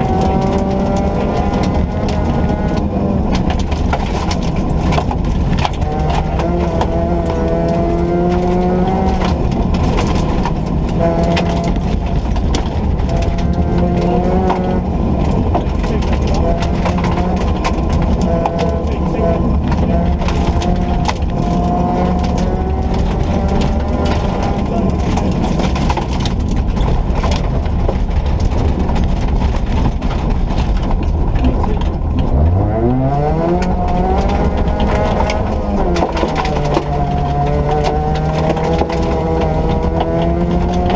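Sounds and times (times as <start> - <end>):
car engine pulling hard: 0.0 - 40.9
road noise rumble: 0.0 - 40.9
sharp clicks and knocks: 0.0 - 40.9.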